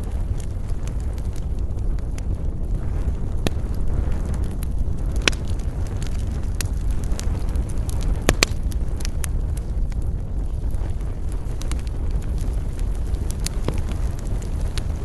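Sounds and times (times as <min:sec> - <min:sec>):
low rumble: 0:00.0 - 0:15.0
wood fire crackling: 0:00.0 - 0:15.0.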